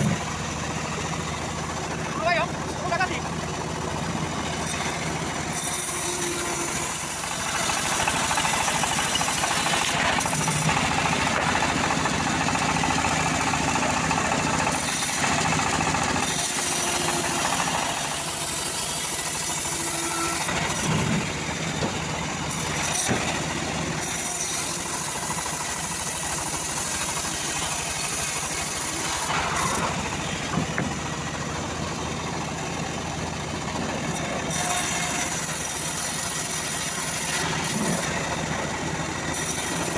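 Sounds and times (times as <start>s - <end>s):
saw blade cutting wood: 0.0s - 0.3s, 4.2s - 31.2s, 33.8s - 39.9s
bandsaw mill drone: 0.0s - 39.9s.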